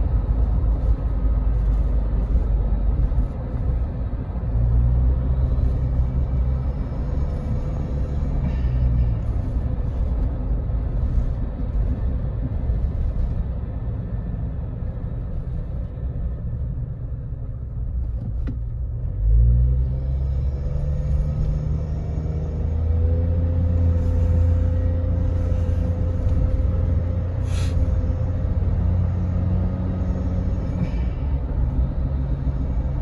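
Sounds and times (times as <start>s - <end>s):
car engine: 0.0s - 33.0s
road rumble: 0.0s - 33.0s.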